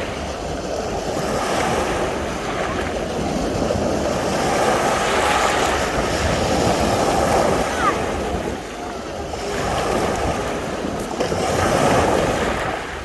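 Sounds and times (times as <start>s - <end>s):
sea waves washing onto beach: 0.0s - 13.0s
wind rumble on microphone: 0.0s - 13.0s.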